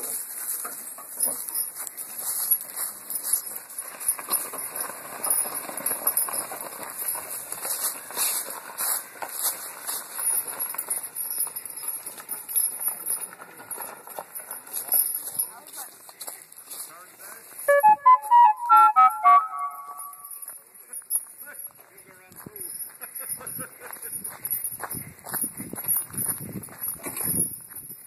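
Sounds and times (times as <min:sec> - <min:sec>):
harness and cart rattling: 0:00.0 - 0:28.0
hooves clip-clopping on gravel: 0:00.0 - 0:28.0.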